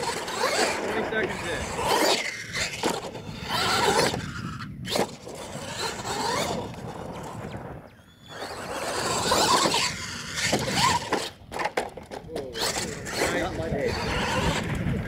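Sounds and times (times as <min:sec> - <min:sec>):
toy truck motor: 0:00.0 - 0:07.4, 0:08.2 - 0:11.9, 0:12.5 - 0:14.8
tyres scraping through loose dirt: 0:00.0 - 0:07.6, 0:08.3 - 0:15.0.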